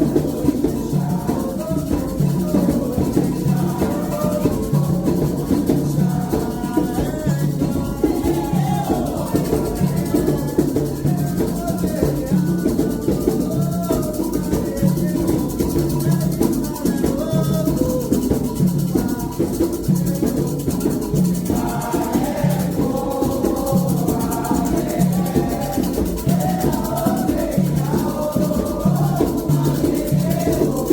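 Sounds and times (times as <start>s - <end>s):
hand drums: 0.0s - 30.9s
voices singing: 0.0s - 30.9s.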